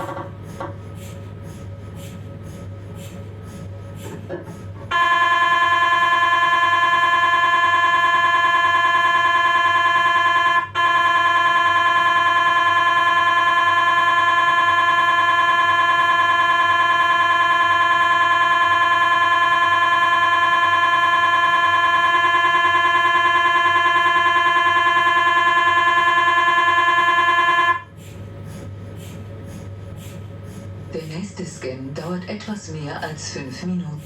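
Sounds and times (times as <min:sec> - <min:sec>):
mri scanner buzzing: 0:00.0 - 0:34.0.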